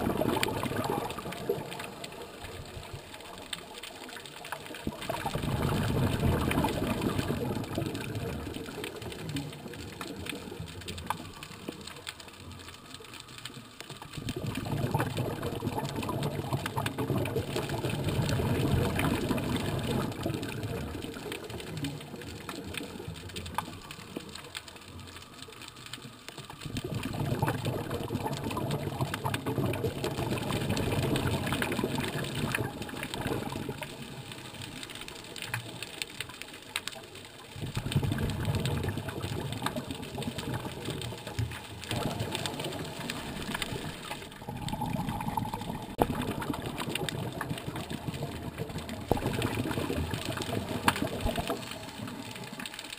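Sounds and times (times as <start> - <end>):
faint crackle: 0.0 - 52.9
underwater exhaled bubbles gurgling: 0.0 - 52.9.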